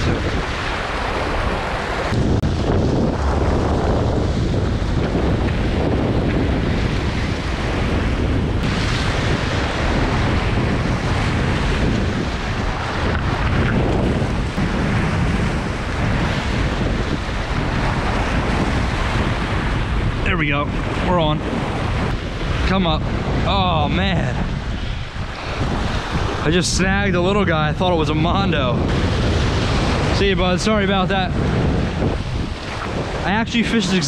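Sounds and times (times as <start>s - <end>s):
surf breaking against rocks: 0.0s - 34.0s
wind buffeting microphone: 0.0s - 34.0s.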